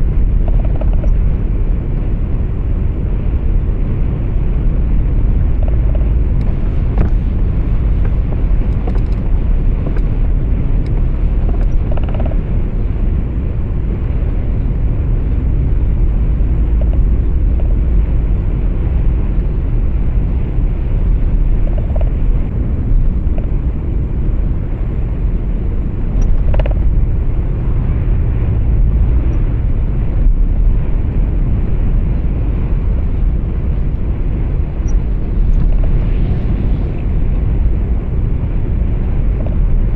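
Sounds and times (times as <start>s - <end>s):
truck cab road and engine rumble: 0.0s - 39.9s.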